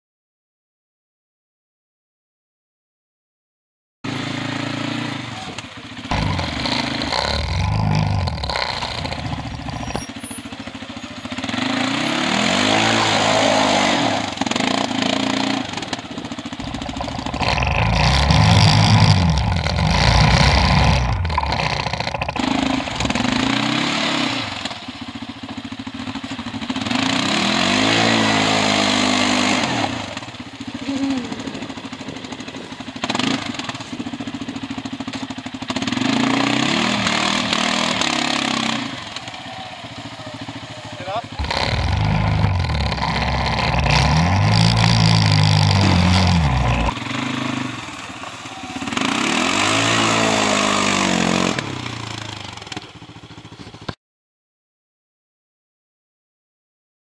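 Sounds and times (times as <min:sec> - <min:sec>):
atv engine revving: 0:04.1 - 0:54.0.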